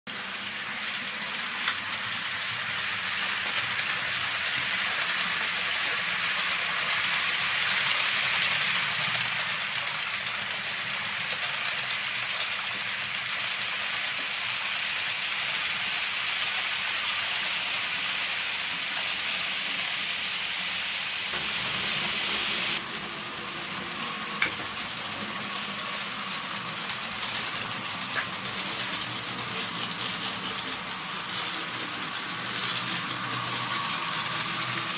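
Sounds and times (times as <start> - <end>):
model train wheels rattling: 0.1 - 34.9.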